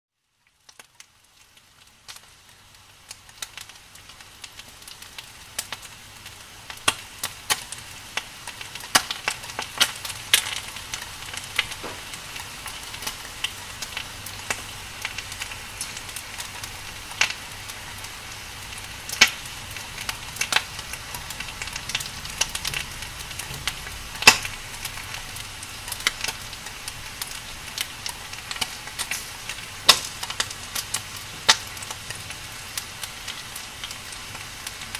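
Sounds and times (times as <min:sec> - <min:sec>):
fire crackling and popping: 0:00.3 - 0:34.9.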